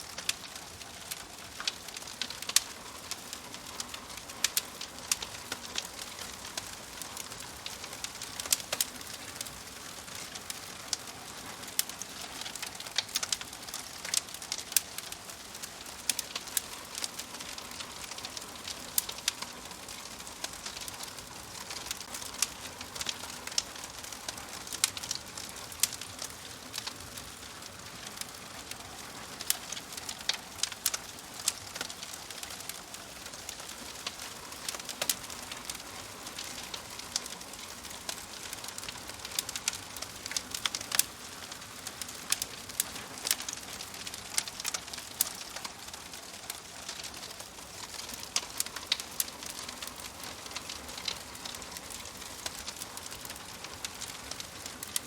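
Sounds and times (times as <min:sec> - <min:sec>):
wood logs crackling in fireplace: 0:00.0 - 0:55.0.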